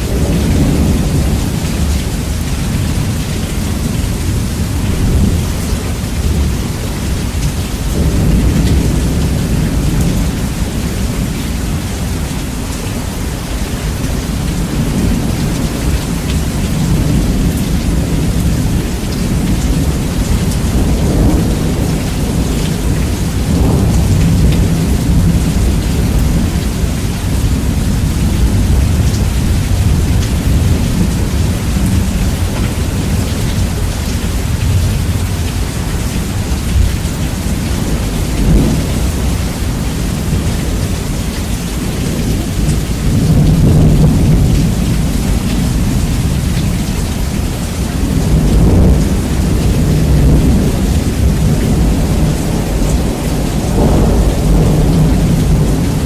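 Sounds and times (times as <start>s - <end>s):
heavy rain: 0.0s - 56.0s
rumbling thunder: 0.0s - 56.0s.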